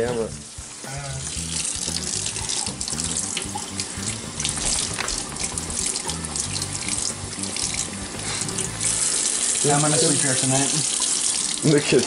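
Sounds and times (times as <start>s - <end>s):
background music: 0.0s - 10.1s
water running from tap: 0.0s - 12.0s.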